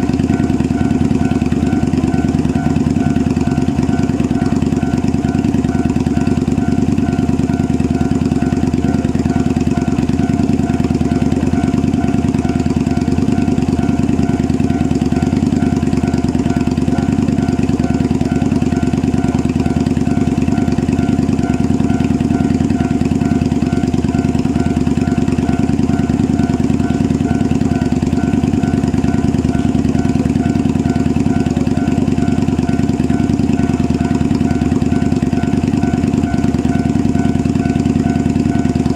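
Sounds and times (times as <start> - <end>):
diesel railcar engines idling: 0.0 - 38.9
level-crossing alarm dinging: 0.0 - 38.9.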